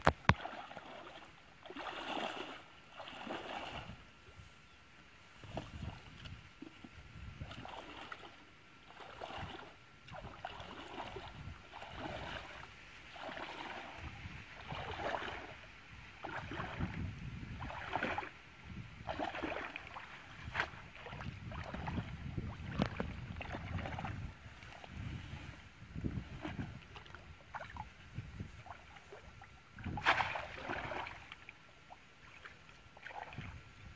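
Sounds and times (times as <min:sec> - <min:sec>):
wading through muddy water: 0:00.0 - 0:33.9.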